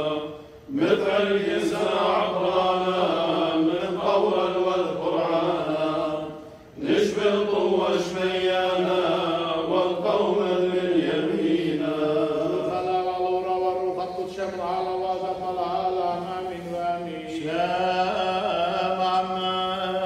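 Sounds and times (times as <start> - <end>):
men chanting liturgy: 0.0 - 20.0.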